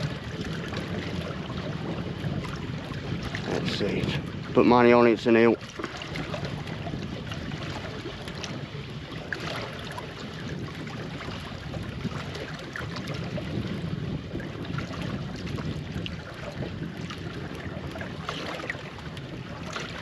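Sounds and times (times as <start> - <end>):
sea water washing: 0.0 - 20.0
wind: 0.0 - 20.0.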